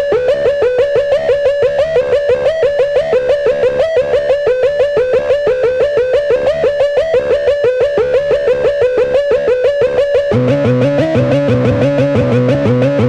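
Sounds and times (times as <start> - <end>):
noise music with bending notes: 0.0 - 13.0.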